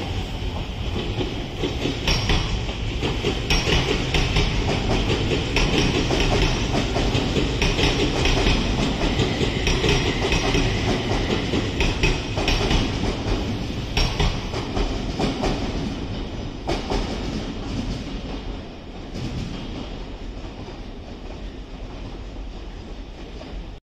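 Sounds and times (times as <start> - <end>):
train rumble: 0.0 - 23.8
train wheels clacking over rail joints: 0.4 - 23.8.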